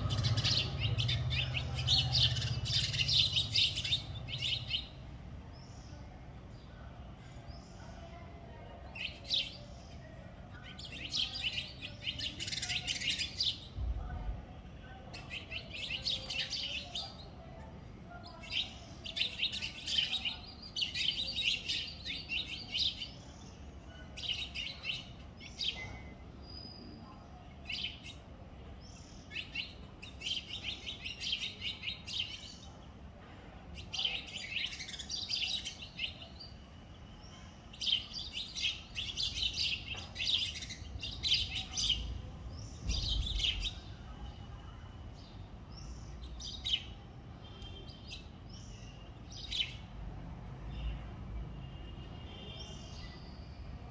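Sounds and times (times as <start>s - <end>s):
sparrows chirping: 0.0s - 53.9s.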